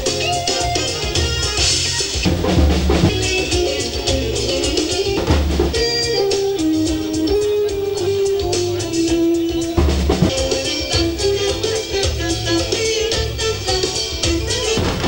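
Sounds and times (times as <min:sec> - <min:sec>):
drum kit beat: 0:00.0 - 0:15.0
guitar: 0:00.0 - 0:15.0
live band playing upbeat music: 0:00.0 - 0:15.0
long held melody notes: 0:02.3 - 0:15.0.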